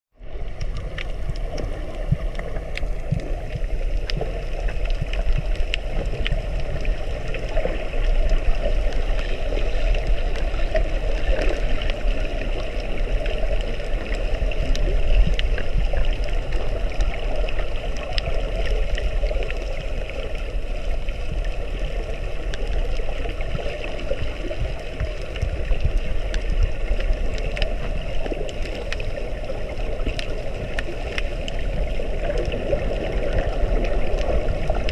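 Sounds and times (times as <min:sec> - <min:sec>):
underwater rumble and hiss: 0:00.2 - 0:34.9
crackling clicks: 0:00.3 - 0:34.9.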